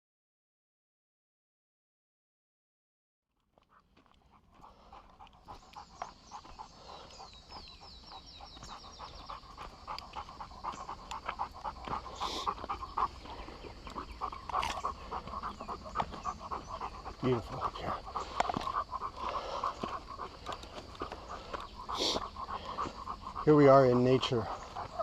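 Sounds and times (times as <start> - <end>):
rapid panting breaths: 3.6 - 25.0.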